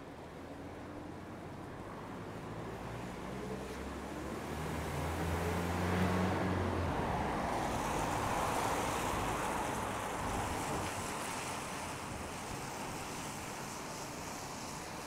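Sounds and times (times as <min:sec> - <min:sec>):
car tyre hiss on wet road: 0:01.9 - 0:15.0.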